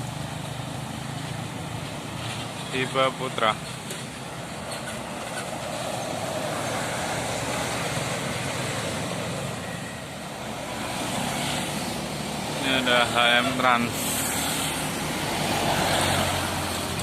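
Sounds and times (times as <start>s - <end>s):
bus passing: 0.0s - 17.0s
vehicle approaching: 0.0s - 17.0s.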